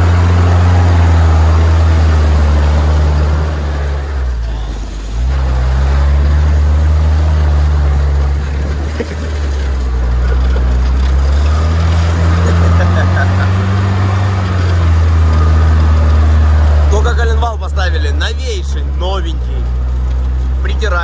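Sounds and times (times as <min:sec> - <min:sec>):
jeep engine pulling: 0:00.0 - 0:21.0
mud and water splashing: 0:00.0 - 0:21.0.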